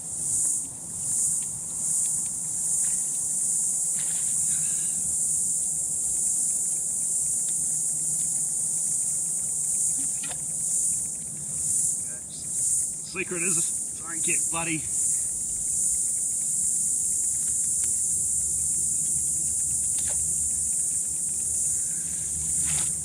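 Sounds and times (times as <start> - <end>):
faint rustles: 0.0 - 23.0
high-pitched insect chorus: 0.0 - 23.0
faint clicks: 0.2 - 23.0.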